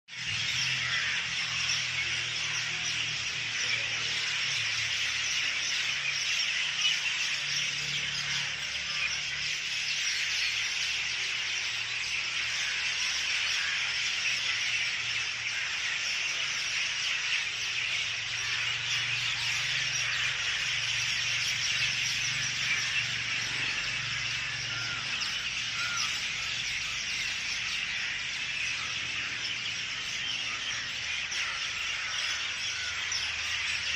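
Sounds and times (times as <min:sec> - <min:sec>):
birds chirping in chorus: 0:00.1 - 0:33.9.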